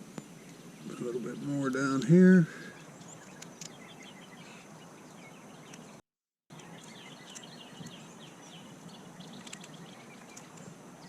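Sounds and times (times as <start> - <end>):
outdoor background hiss: 0.0 - 11.0
small birds chirping: 0.0 - 11.0.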